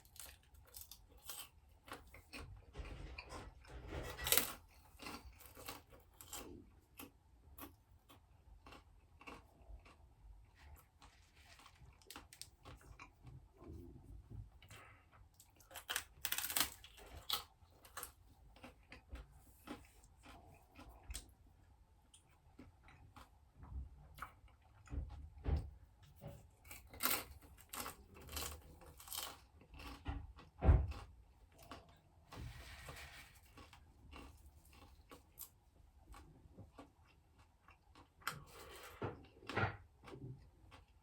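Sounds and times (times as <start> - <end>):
person chewing and crunching: 0.0 - 3.0, 4.0 - 25.3, 26.3 - 41.0.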